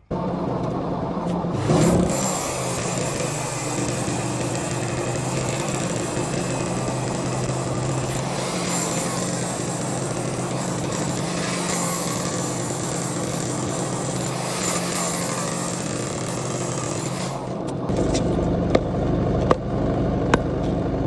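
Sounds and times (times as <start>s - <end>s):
small motor running: 0.0s - 21.0s.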